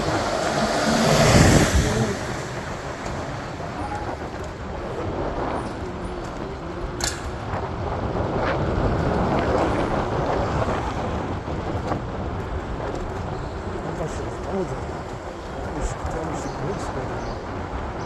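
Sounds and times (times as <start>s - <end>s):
city traffic rumble: 0.0s - 18.0s
wind buffeting microphone: 0.0s - 18.0s.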